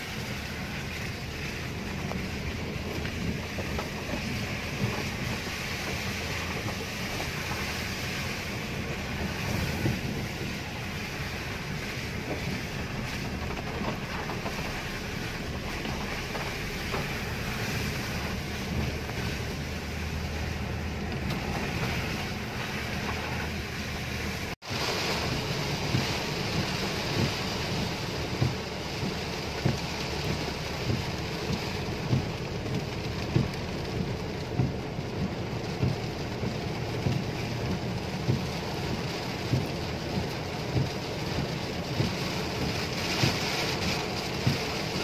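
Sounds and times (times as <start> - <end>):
heavy rain inside car cabin: 0.0 - 45.0.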